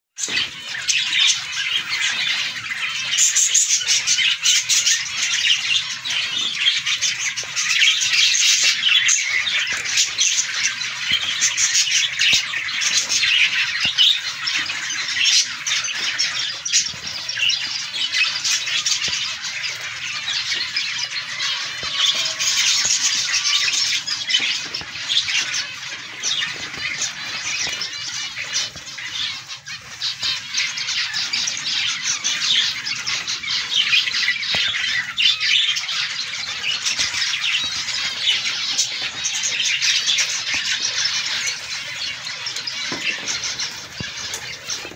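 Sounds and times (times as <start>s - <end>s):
finches chattering calls: 0.2s - 44.9s.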